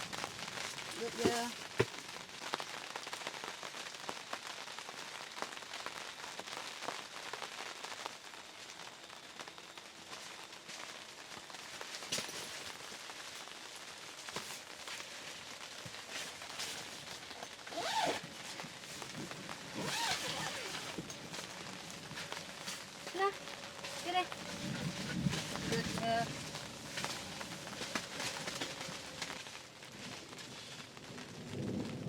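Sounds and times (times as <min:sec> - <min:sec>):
rain drops ticking on a surface: 0:00.0 - 0:32.0.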